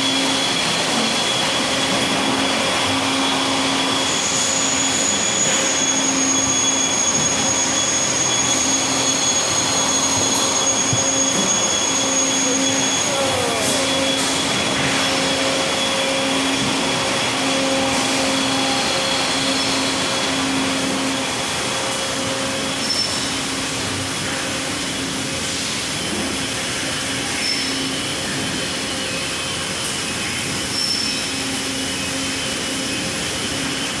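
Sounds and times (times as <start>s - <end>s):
high whine: 0.0s - 34.0s
machinery and ventilation running: 0.0s - 34.0s
steady machine whines: 0.0s - 34.0s.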